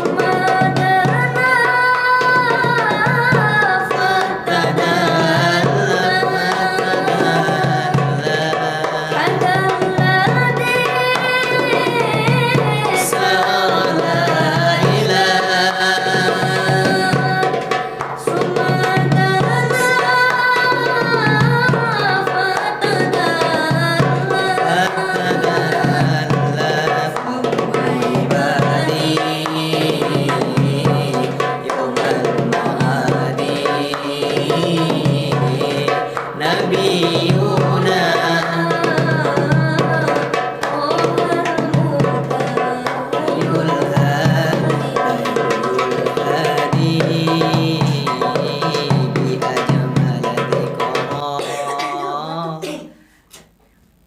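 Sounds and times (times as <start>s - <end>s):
hand drum rhythm: 0.0s - 52.8s
person singing devotional song: 0.0s - 53.4s.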